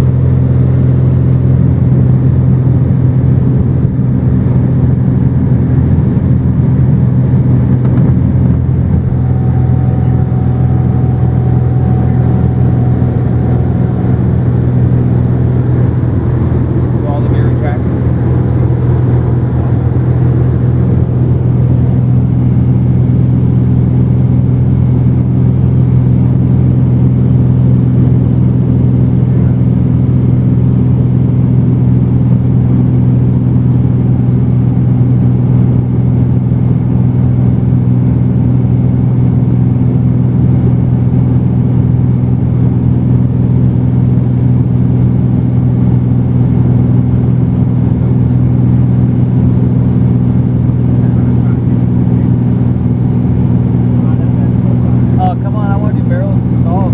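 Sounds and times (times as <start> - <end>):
airplane engine droning: 0.0 - 56.9.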